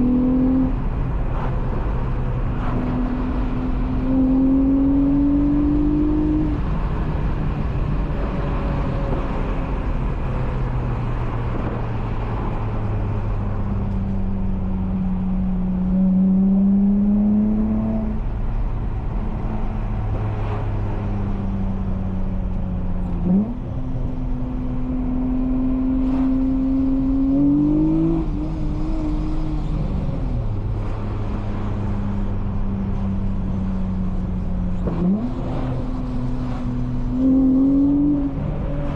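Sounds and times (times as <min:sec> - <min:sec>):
car engine through loud exhaust: 0:00.0 - 0:38.9.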